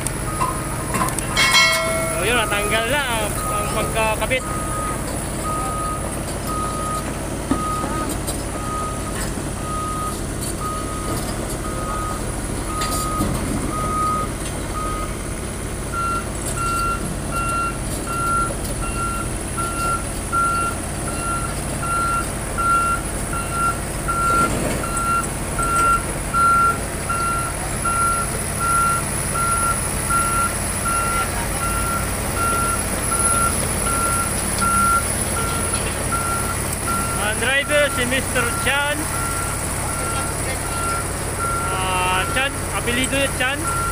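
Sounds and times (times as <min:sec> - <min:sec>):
heavy truck engine running: 0:00.0 - 0:43.9
reversing alarm beeping: 0:00.2 - 0:15.2, 0:15.9 - 0:43.9.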